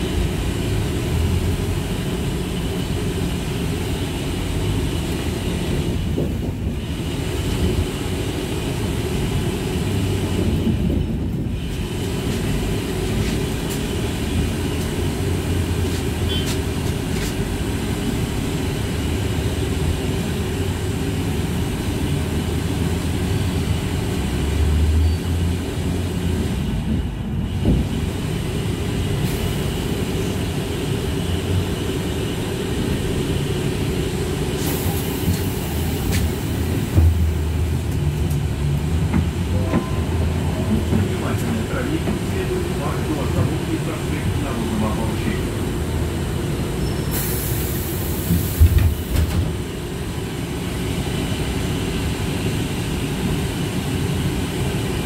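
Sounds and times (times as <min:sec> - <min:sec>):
trolleybus rumbling: 0:00.0 - 0:55.0.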